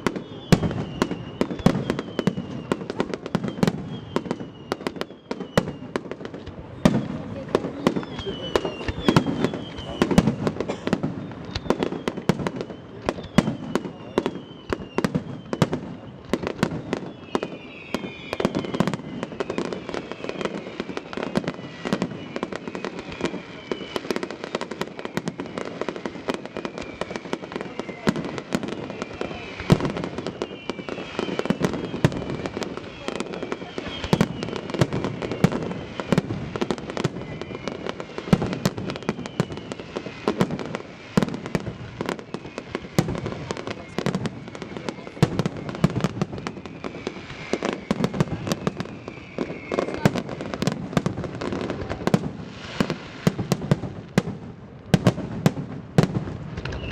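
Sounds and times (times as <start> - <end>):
falling firework whistles: 0.0 - 56.9
fireworks bangs and crackling: 0.0 - 56.9.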